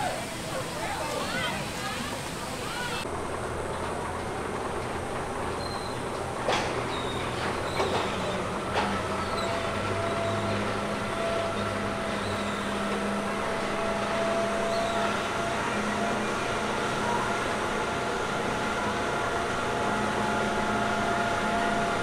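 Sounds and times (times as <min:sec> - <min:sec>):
ride mechanical hum and whine: 0:00.0 - 0:22.0.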